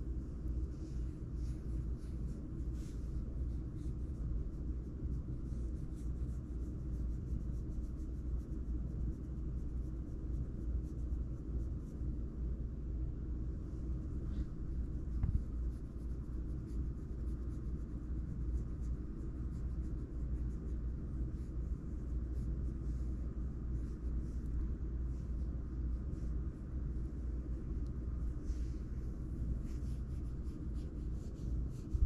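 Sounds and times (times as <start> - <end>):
fingers rubbing fur: 0.0 - 12.4, 13.6 - 32.0.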